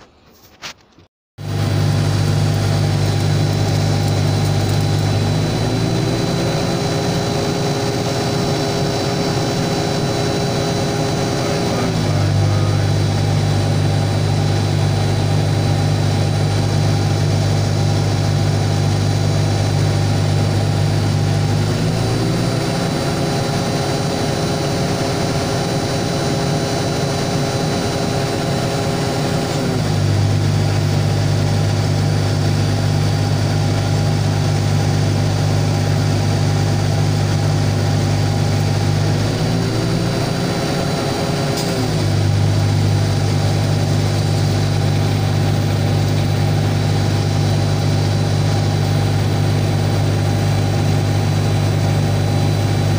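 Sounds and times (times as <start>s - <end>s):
pile driver engine humming: 0.0s - 52.9s.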